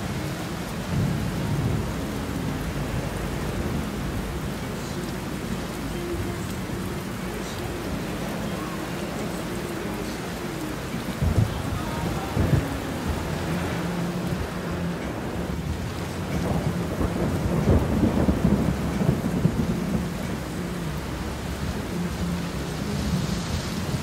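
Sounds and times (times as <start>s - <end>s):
heavy rain drumming on car roof: 0.0s - 24.0s.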